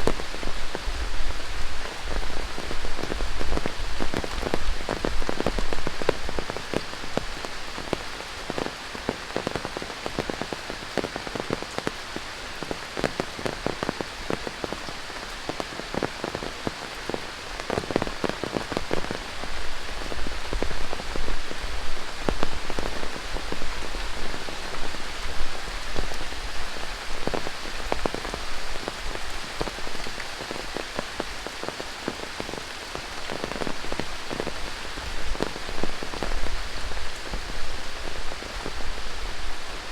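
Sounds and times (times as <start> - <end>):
rain drops striking: 0.0 - 39.9
steady hiss of rain: 0.0 - 39.9.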